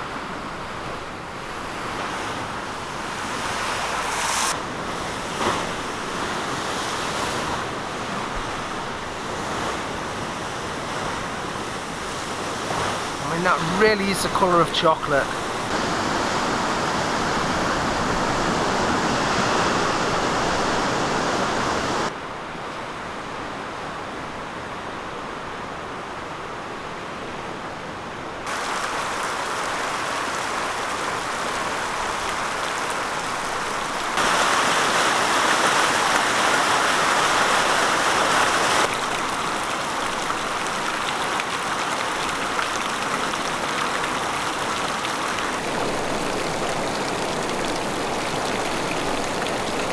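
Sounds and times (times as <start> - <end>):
floodwater rushing: 0.0 - 22.1, 28.5 - 49.9.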